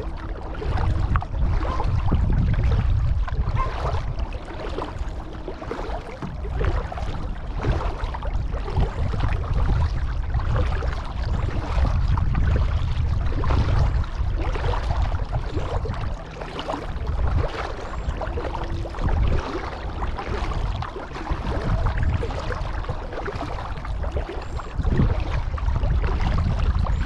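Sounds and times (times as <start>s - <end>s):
water splashing against kayak: 0.0s - 27.0s
wind rumble on microphone: 0.0s - 27.0s.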